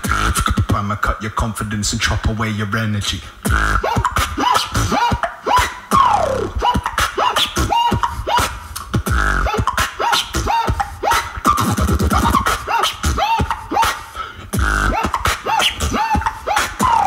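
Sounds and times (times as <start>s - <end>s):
beatboxing into a microphone: 0.0s - 17.0s.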